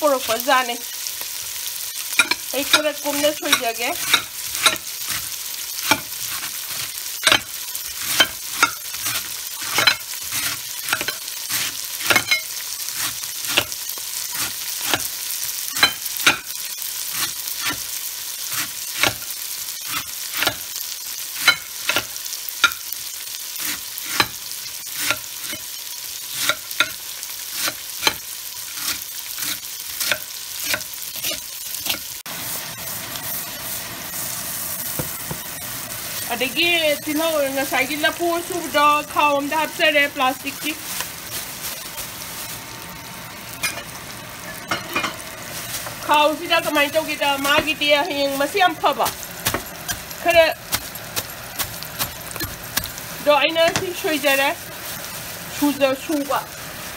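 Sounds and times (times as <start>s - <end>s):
oil sizzling in a pot: 0.0s - 56.9s.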